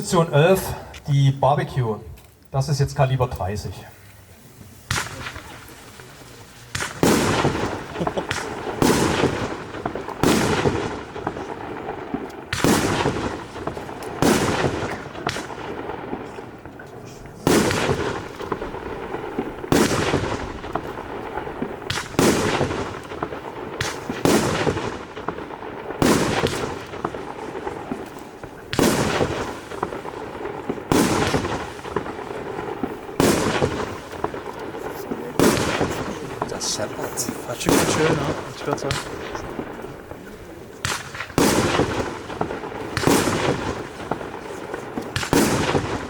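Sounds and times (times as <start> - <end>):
firework bangs with clattering tail: 4.8 - 46.0.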